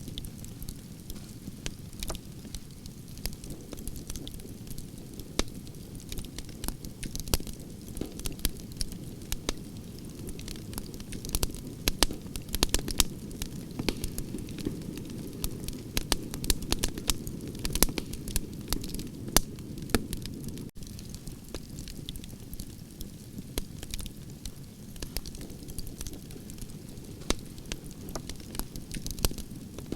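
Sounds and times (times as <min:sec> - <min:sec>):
logs crackling and popping: 0:00.0 - 0:29.9
low rumble of flames: 0:00.0 - 0:29.9.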